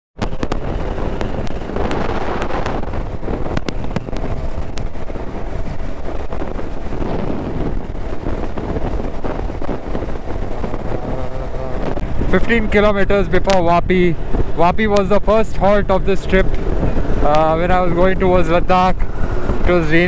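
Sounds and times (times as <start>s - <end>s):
motorcycle engine running: 0.2s - 20.0s
wind rush buffeting microphone: 0.2s - 20.0s.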